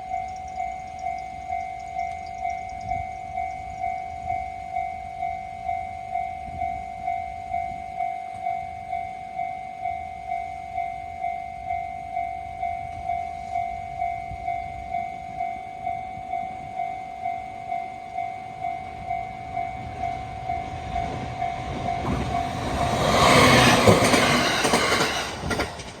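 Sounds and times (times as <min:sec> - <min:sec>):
level-crossing alarm bell: 0:00.0 - 0:26.0
train rumble and wheel clatter: 0:00.0 - 0:26.0.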